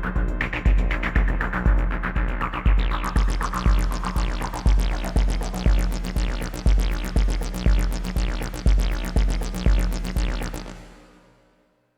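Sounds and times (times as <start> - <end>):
steady kick drum: 0.0 - 10.8
fast hi-hats: 0.0 - 11.0
looping synth lines: 0.0 - 11.1.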